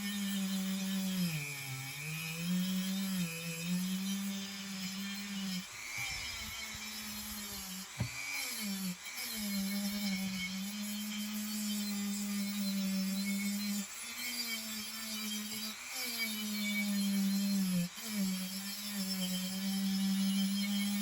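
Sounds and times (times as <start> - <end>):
power tool motor whining: 0.0 - 21.0.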